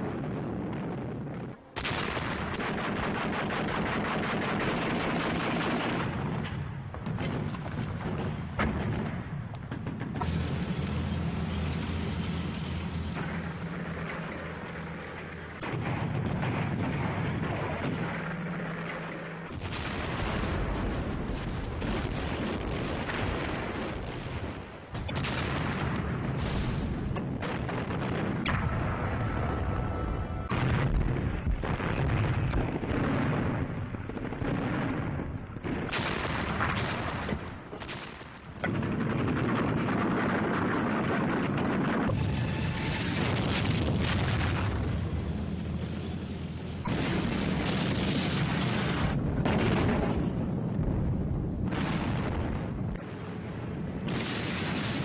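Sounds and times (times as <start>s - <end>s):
booming explosions: 0.0s - 55.0s
dense gunfire: 1.8s - 12.2s, 12.9s - 55.0s.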